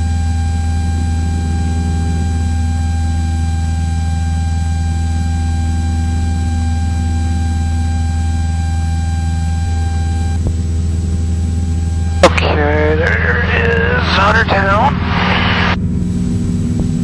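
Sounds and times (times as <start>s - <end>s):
aircraft engine and propeller droning: 0.0s - 17.0s
thin steady whine: 0.0s - 17.0s.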